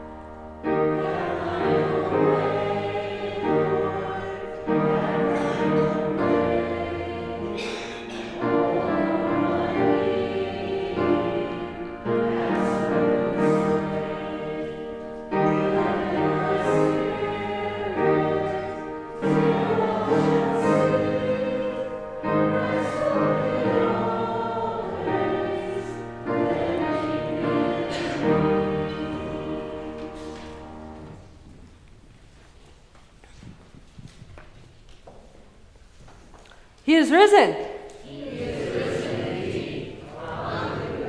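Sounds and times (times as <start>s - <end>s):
congregation singing a hymn: 0.0s - 31.7s, 36.9s - 41.0s.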